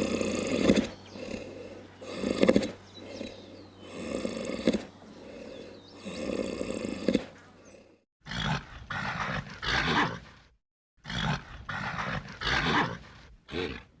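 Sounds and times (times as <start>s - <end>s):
bull snorting: 0.0s - 10.4s, 11.0s - 13.9s.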